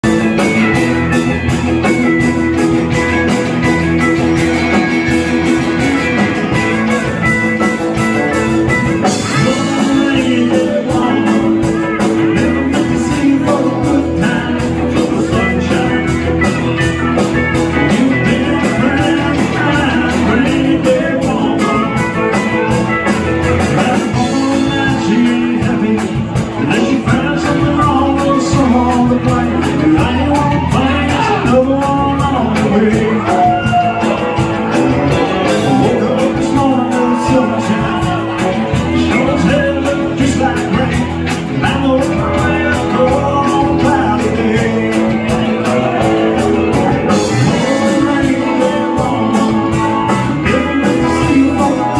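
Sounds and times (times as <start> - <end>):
live country band playing: 0.0 - 51.9
steady drum beat: 0.0 - 51.9.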